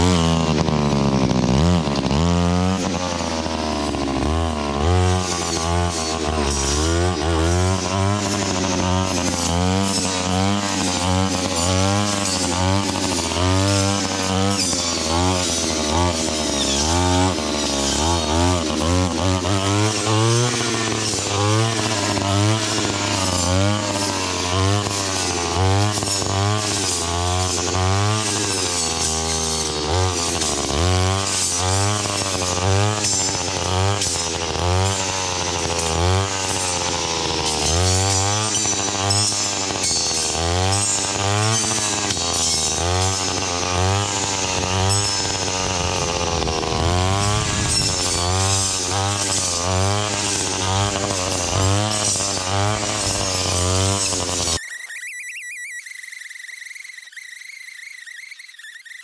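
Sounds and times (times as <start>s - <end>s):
power tool engine revving: 0.0s - 55.0s.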